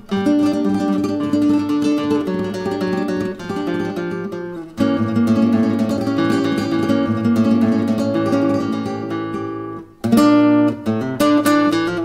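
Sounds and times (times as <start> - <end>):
solo flamenco guitar: 0.0 - 12.0.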